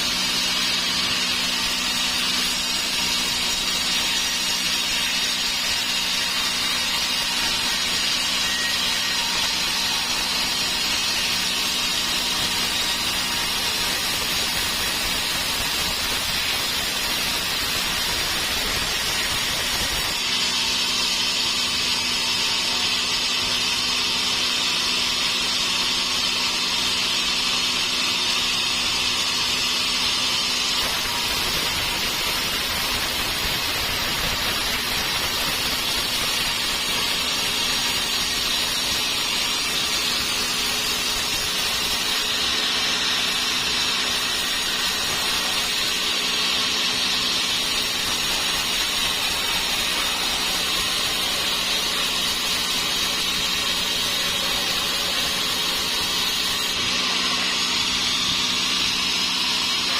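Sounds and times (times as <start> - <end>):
saw cutting wood: 0.0 - 59.9.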